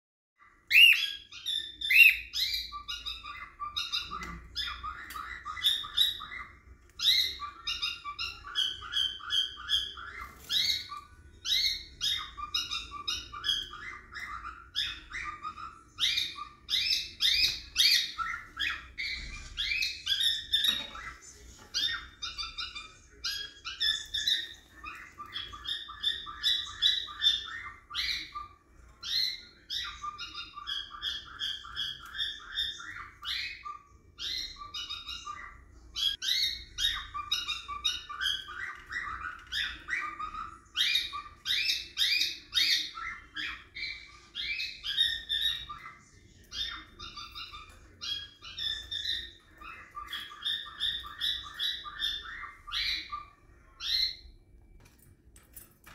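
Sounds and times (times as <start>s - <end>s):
cockatiels chirping: 0.4s - 55.9s.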